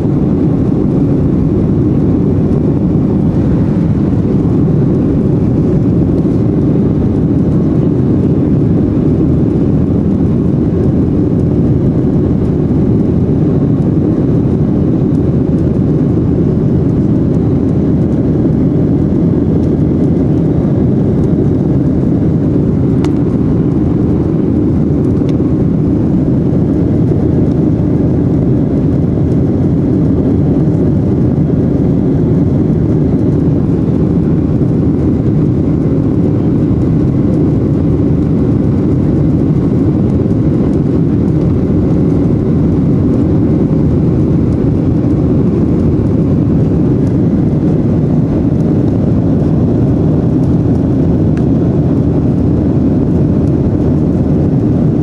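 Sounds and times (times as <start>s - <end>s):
airplane cabin engine noise: 0.0s - 55.0s.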